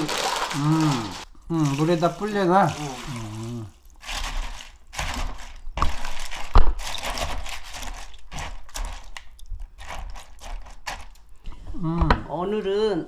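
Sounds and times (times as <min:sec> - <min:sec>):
noodles sloshing in water: 0:00.0 - 0:11.2.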